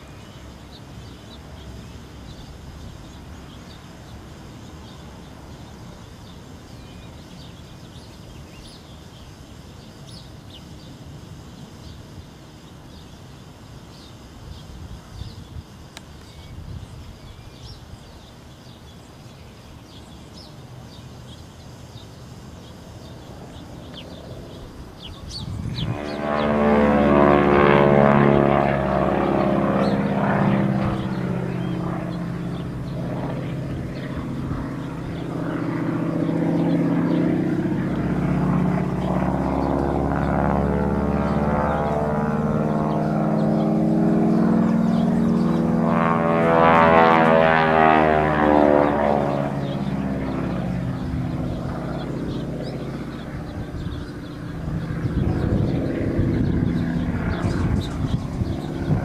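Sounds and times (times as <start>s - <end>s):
propeller airplane engine drone: 0.0s - 59.0s.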